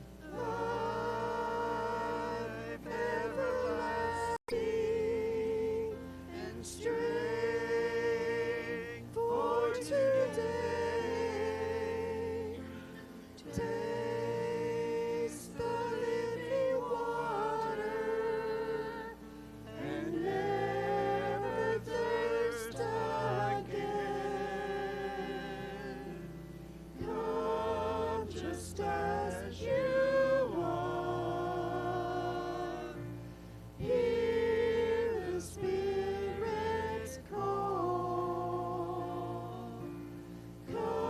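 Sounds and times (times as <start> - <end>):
congregation singing: 0.0 - 41.0
low sustained accompaniment: 0.0 - 41.0.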